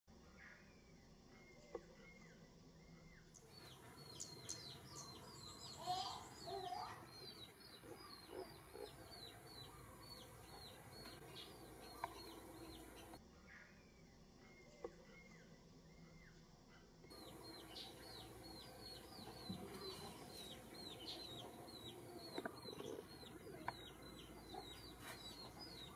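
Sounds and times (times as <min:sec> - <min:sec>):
bird chirping: 0:00.4 - 0:13.2, 0:17.1 - 0:25.9.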